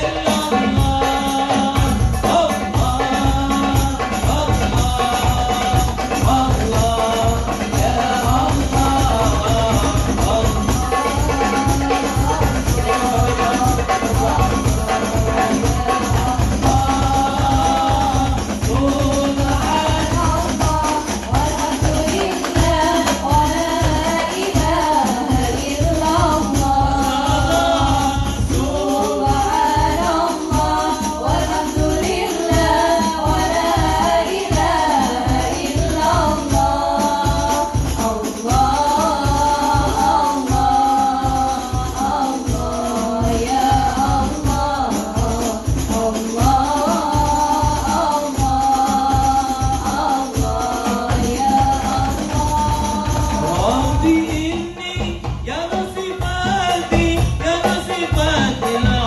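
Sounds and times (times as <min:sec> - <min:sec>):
frame drums beating: 0:00.0 - 0:59.0
group singing devotional songs: 0:00.0 - 0:59.0.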